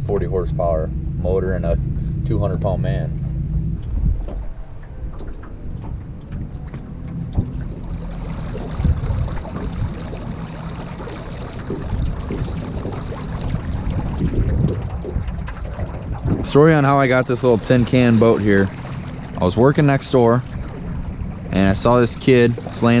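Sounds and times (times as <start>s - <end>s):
water rushing along boat hull: 0.0s - 23.0s
wind buffeting microphone: 0.0s - 23.0s.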